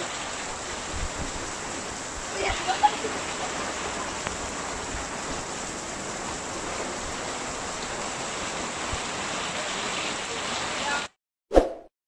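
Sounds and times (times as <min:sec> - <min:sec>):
rain falling: 0:00.0 - 0:11.2.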